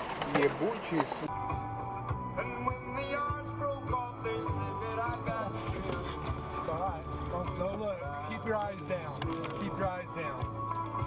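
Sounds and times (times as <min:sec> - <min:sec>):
background music with beat: 0:01.3 - 0:11.0.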